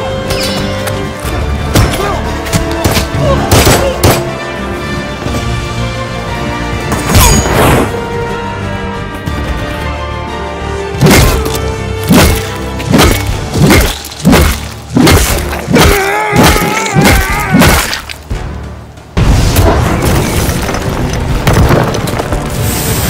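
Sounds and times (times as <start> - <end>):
dramatic music: 0.0 - 23.0.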